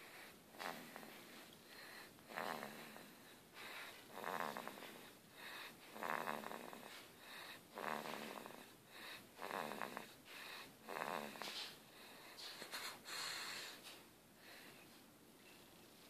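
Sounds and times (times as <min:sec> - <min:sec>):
baby snoring: 0:00.0 - 0:13.8
soft breaths: 0:00.0 - 0:16.0.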